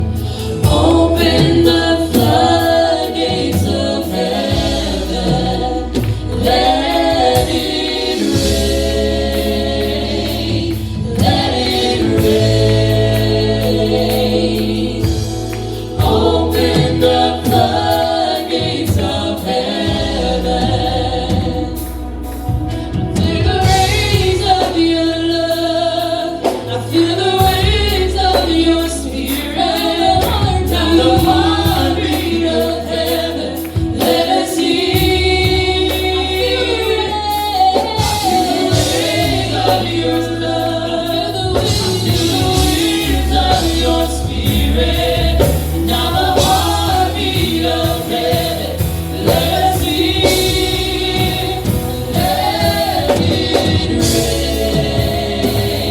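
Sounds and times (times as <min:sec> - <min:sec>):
band with steady beat: 0:00.0 - 0:55.9
choir singing: 0:00.0 - 0:55.9.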